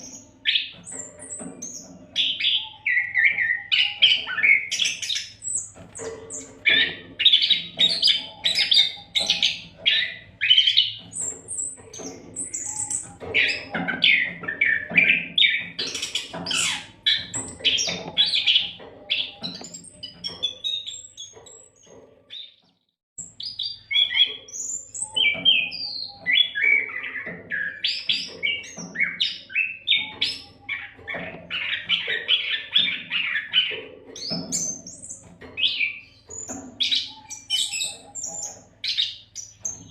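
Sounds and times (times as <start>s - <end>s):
bird singing whistles and chirps: 6.3s - 21.7s, 23.2s - 39.9s.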